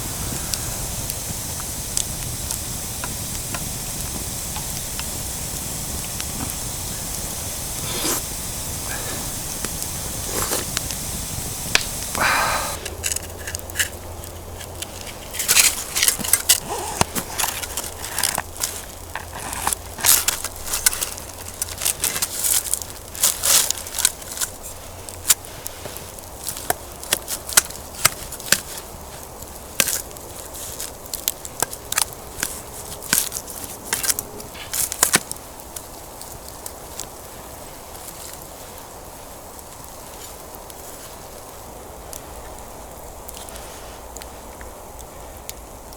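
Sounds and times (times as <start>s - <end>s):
campfire crackling and popping: 0.0s - 45.9s
fire hissing: 0.0s - 45.9s.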